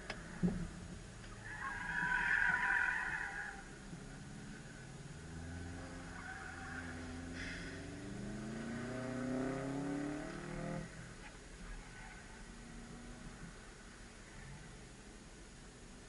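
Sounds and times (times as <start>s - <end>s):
car engine idling and revving: 0.0s - 2.6s, 3.2s - 16.0s.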